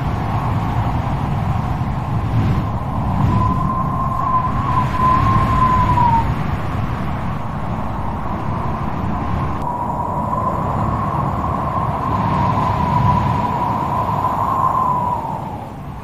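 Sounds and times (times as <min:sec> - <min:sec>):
strong wind howling: 0:00.0 - 0:16.0.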